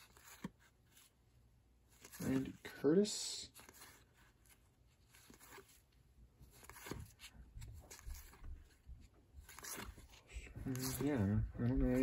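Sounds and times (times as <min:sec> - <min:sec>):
trading cards being flipped: 0:00.0 - 0:01.1, 0:01.9 - 0:02.8, 0:03.5 - 0:08.8, 0:09.4 - 0:12.0.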